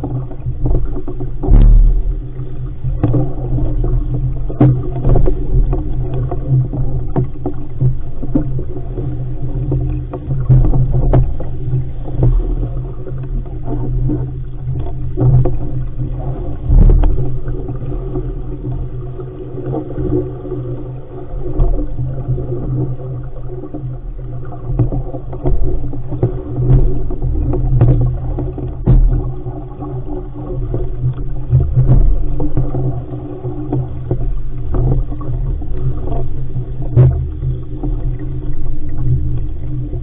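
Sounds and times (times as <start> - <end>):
waves knocking against hull: 0.0 - 40.0
wind and water rushing: 0.0 - 40.0.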